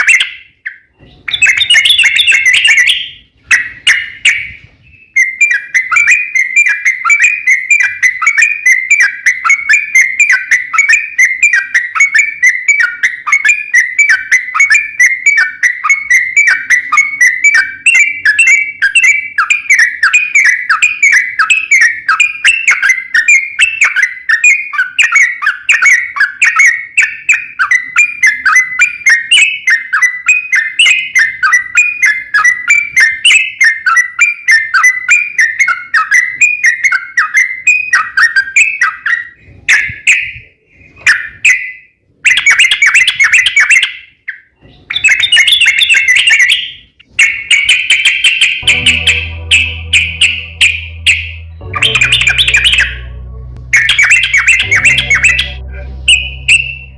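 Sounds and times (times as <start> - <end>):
songbird chirping: 0.0 - 39.1, 42.4 - 56.9.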